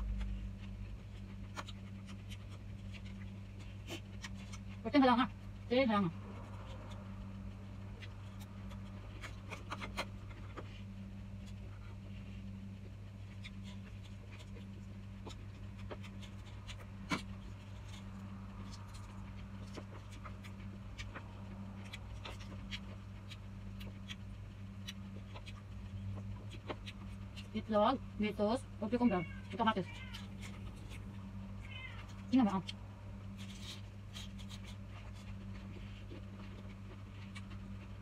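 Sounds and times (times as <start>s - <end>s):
person chewing: 0.0s - 4.8s, 6.3s - 27.6s, 30.1s - 38.0s
steady low hum: 0.0s - 38.0s.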